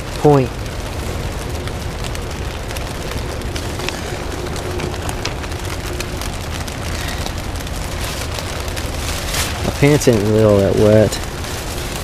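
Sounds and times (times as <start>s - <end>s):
low wind rumble: 0.0s - 12.0s
rain tapping on plastic sheeting: 0.0s - 12.0s.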